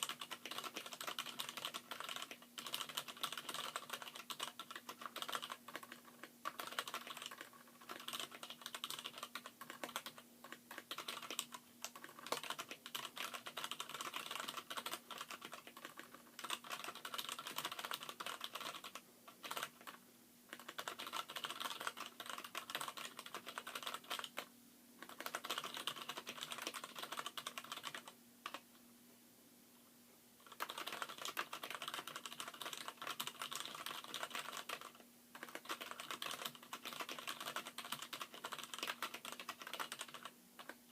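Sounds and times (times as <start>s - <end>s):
mechanical keyboard typing: 0.0s - 28.6s, 30.4s - 40.9s.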